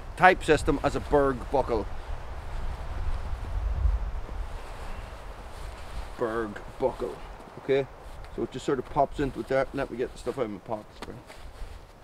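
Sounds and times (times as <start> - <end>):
wind rumbling on microphone: 0.0 - 10.2
faint rustling: 1.0 - 12.0.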